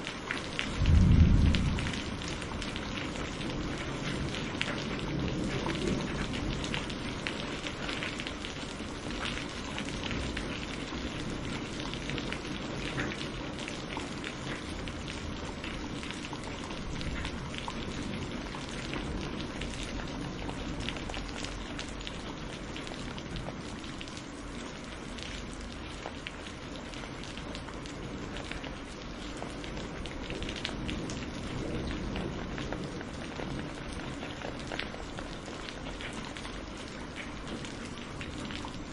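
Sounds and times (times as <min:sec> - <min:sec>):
rain drops ticking: 0:00.0 - 0:38.9
steady rain hiss: 0:00.0 - 0:38.9.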